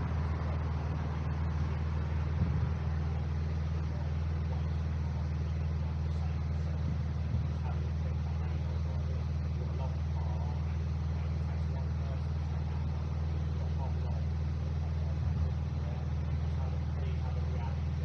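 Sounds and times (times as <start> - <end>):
car engines idling: 0.0 - 18.0.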